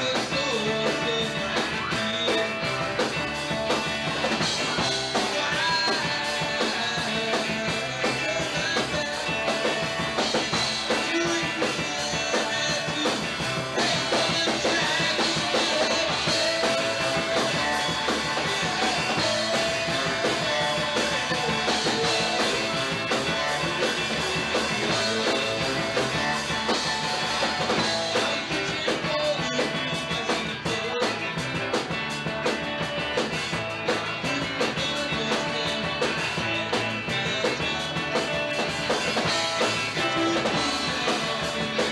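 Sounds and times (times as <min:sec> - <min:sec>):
drum kit: 0:00.0 - 0:41.9
electric bass: 0:00.0 - 0:41.9
electric guitars: 0:00.0 - 0:41.9.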